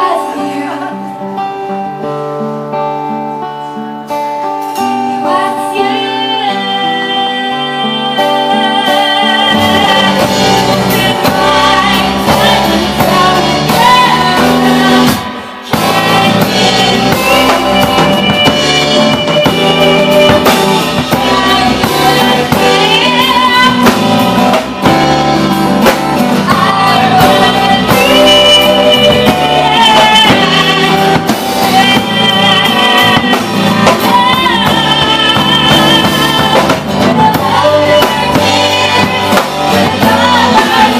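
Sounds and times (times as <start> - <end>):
person singing with vibrato: 0.0 - 1.8, 4.6 - 40.9
drum kit: 2.9 - 40.9.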